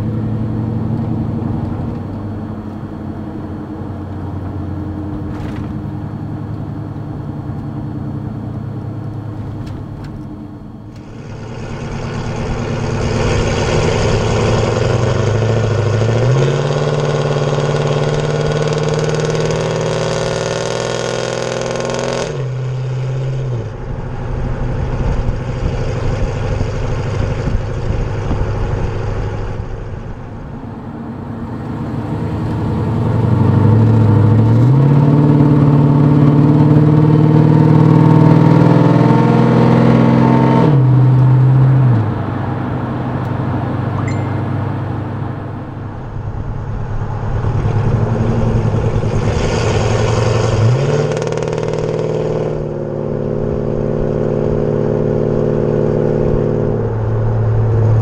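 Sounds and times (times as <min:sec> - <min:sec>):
truck engine and exhaust: 0:00.0 - 0:58.0.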